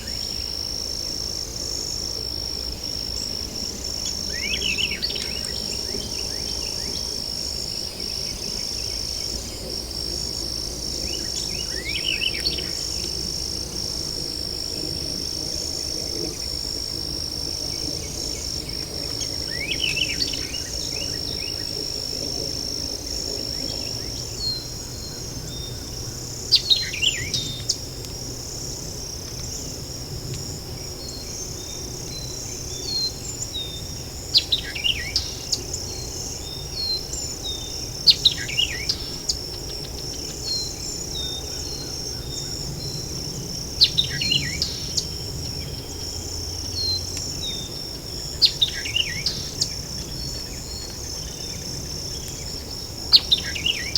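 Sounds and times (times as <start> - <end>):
insect chorus trilling: 0.0 - 53.9.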